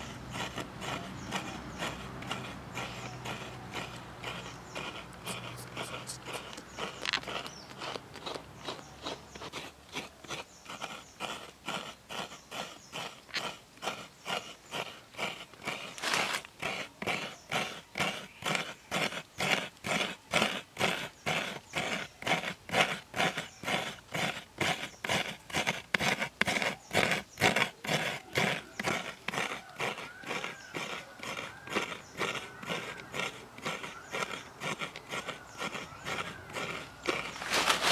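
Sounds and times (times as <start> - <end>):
coconut grater rasping: 0.0 - 37.9.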